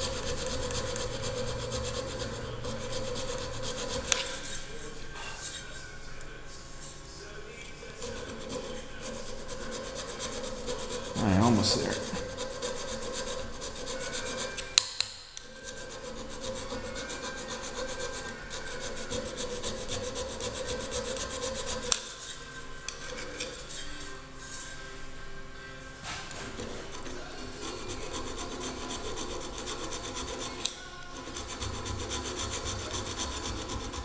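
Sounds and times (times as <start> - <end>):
hand file on metal: 0.0 - 4.7, 8.0 - 14.7, 15.6 - 24.0, 26.4 - 34.0.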